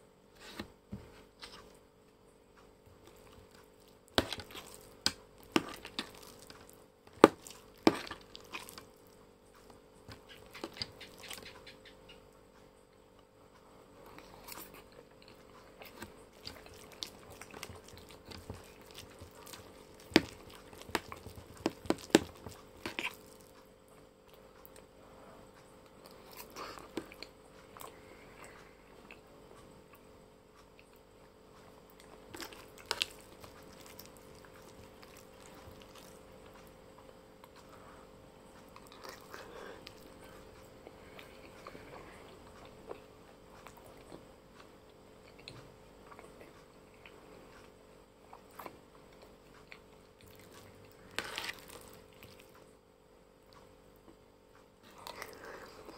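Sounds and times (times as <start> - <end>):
soft chewing: 0.3 - 55.9.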